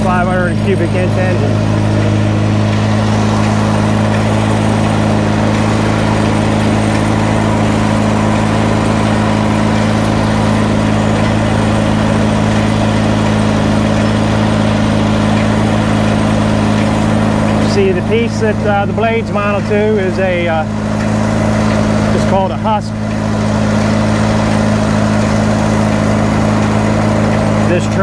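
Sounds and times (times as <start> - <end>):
tractor engine running steadily: 0.0 - 28.0.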